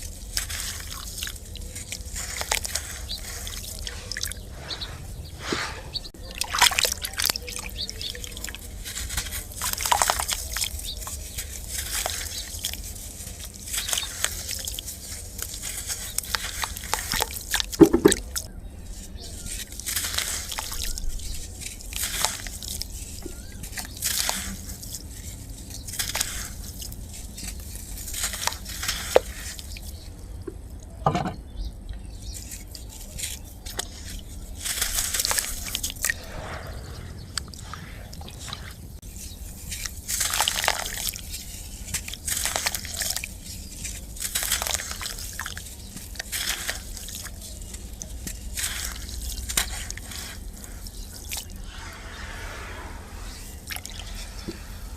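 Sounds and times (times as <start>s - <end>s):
sand crunching: 0.0s - 30.2s, 32.2s - 54.9s.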